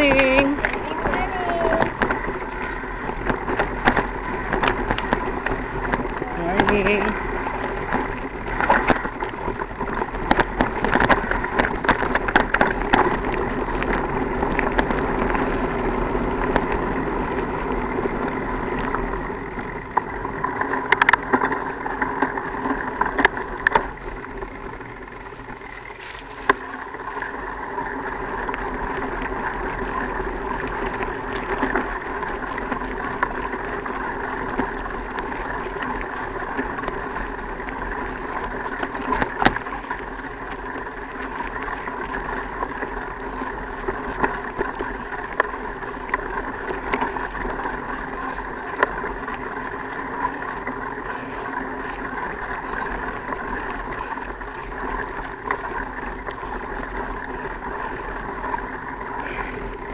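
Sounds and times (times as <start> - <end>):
wind noise: 0.0 - 49.7
bicycle clattering over rough ground: 0.0 - 59.9
bicycle rolling on dirt trail: 0.0 - 59.9
steady hum: 0.0 - 59.9.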